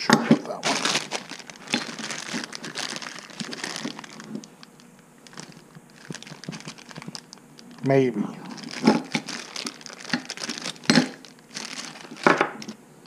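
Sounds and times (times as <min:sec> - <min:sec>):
plastic bag crinkling: 0:00.5 - 0:12.8.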